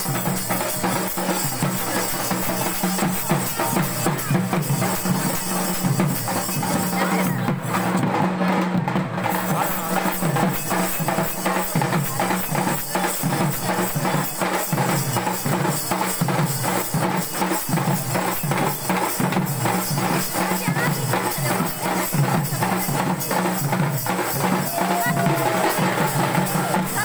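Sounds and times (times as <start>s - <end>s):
group of drummers drumming: 0.0s - 27.0s.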